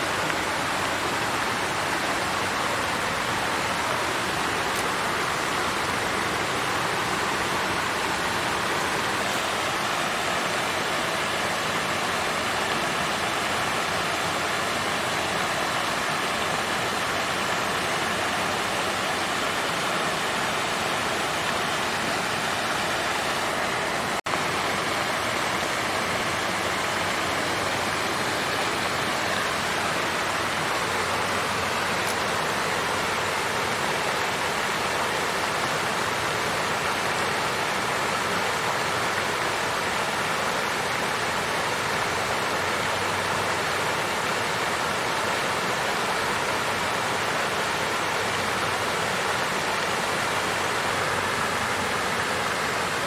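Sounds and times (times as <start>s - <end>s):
water fountain splashing: 0.0s - 53.0s.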